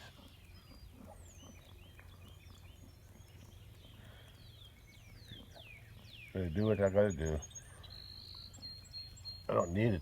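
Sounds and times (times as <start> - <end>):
distant birdsong: 0.0 - 10.0.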